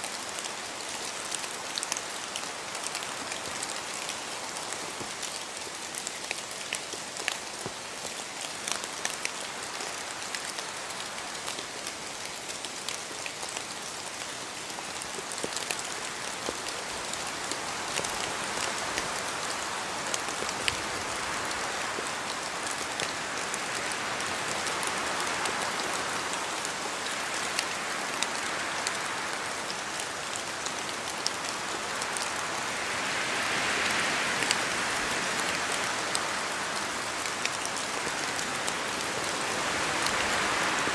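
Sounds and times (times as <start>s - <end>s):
raindrops ticking on leaves: 0.0s - 40.9s
wind through trees: 0.0s - 40.9s.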